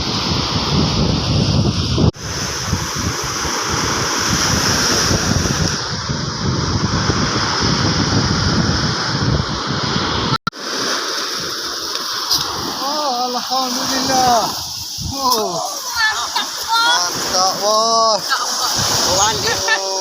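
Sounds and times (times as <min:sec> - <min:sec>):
wind buffeting microphone: 0:00.0 - 0:10.4, 0:13.7 - 0:19.8
surf washing on beach: 0:00.0 - 0:20.0.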